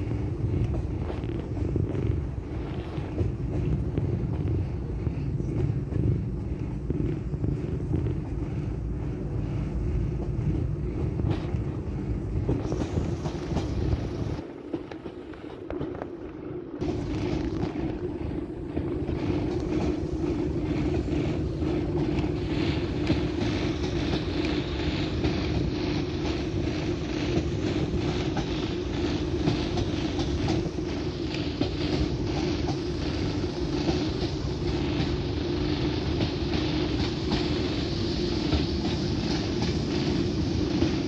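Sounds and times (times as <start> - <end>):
train rumble and hum: 0.0 - 41.0.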